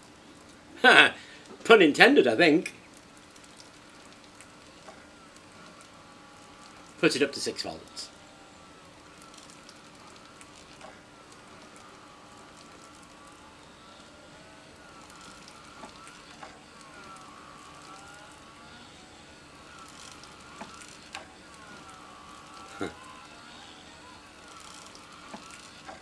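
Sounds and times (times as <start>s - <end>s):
small motor whining faintly: 0.0s - 26.0s.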